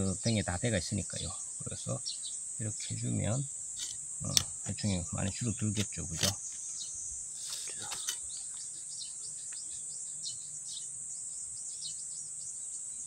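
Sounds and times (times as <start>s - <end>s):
high-pitched insect buzz: 0.0s - 13.0s.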